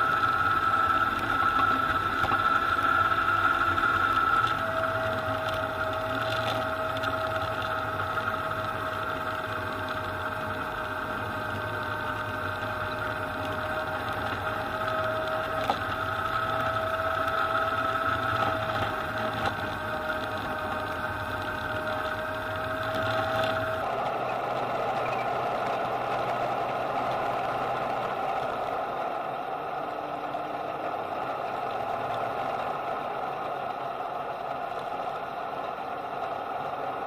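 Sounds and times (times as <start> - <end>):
combine harvester hum and whine: 0.0 - 37.0.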